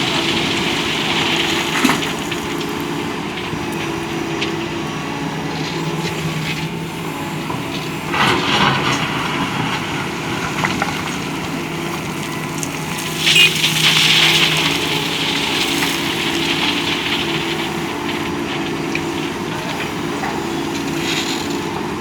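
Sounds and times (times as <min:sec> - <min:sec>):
excavator diesel engine running: 0:00.0 - 0:22.0
gravel rattling and scraping: 0:00.0 - 0:22.0.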